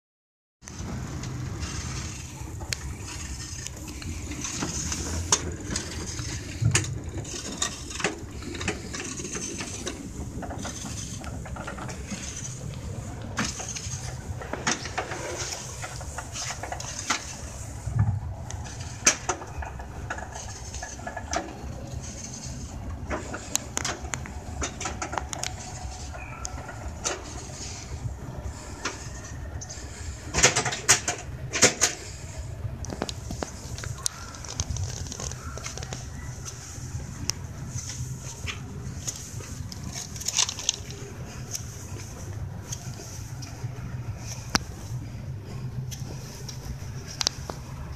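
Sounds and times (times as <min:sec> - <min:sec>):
train wheels rumbling: 0:00.6 - 0:47.9
wheels clicking on track: 0:00.6 - 0:47.9.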